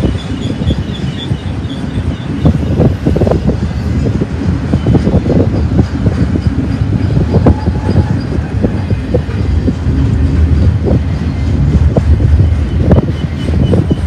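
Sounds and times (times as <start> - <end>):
freight cars knocking and rattling: 0.0 - 14.0
train wheels rumbling on rail: 0.0 - 14.0.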